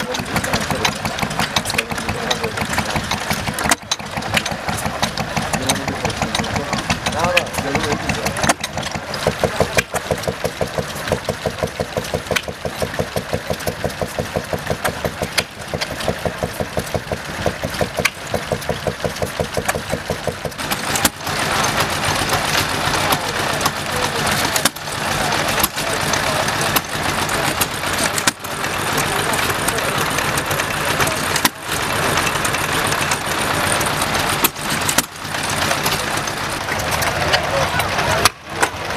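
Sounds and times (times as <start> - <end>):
mix of running engines: 0.0 - 38.9
small engine running: 0.0 - 38.9.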